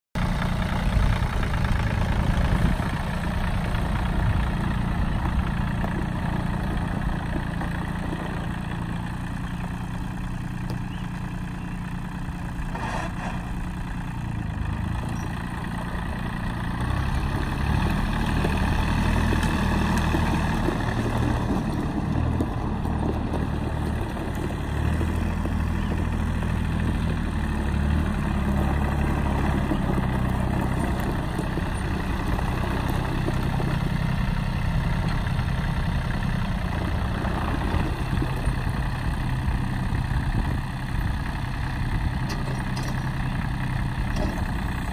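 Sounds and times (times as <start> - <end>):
tractor diesel engine running: 0.2 - 44.9.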